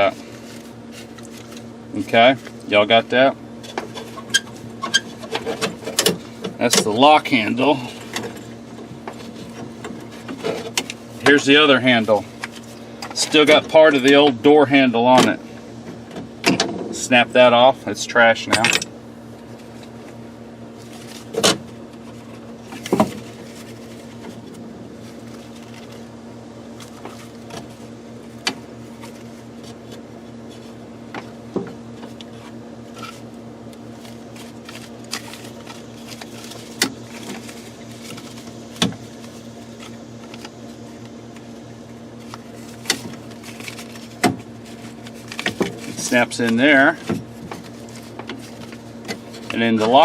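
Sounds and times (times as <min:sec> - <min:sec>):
low hum: 0:03.3 - 0:49.5.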